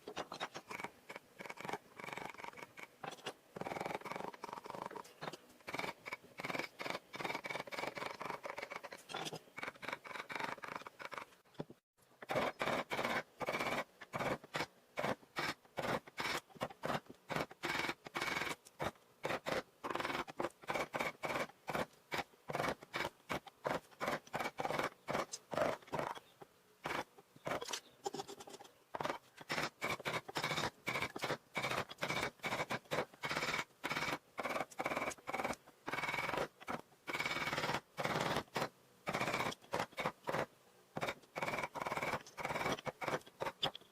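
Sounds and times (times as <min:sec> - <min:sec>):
hand tool scraping wood: 0:00.0 - 0:43.9.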